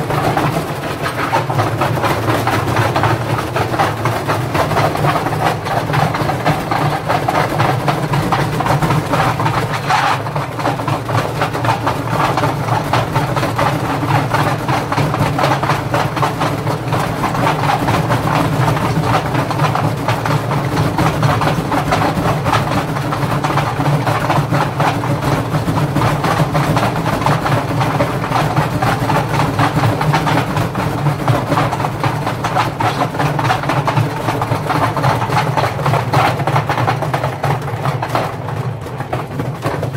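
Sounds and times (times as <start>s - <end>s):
bricks knocking and rattling in drum: 0.0s - 39.9s.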